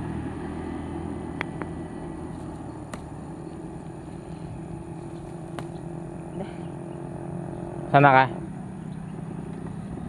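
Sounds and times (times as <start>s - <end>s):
motorcycle engine: 0.0s - 10.0s.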